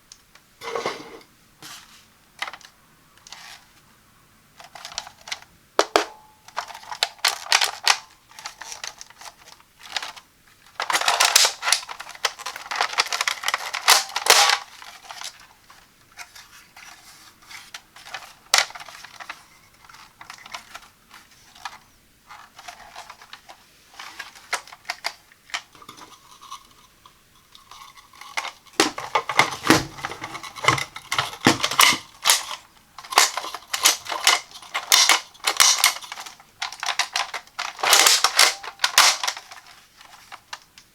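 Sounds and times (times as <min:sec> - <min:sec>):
packaging rustling and tearing: 0:06.6 - 0:26.6, 0:27.6 - 0:40.9.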